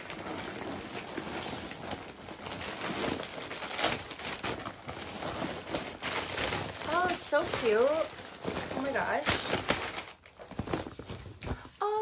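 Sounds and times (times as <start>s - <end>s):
sharp plastic crackles: 0.0s - 11.9s
plastic bag crinkling: 0.0s - 12.0s.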